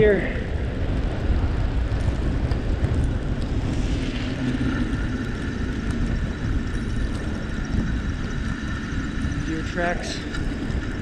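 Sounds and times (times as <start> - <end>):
bicycle tires rumbling on snow: 0.0 - 11.0
wind on microphone: 0.0 - 11.0.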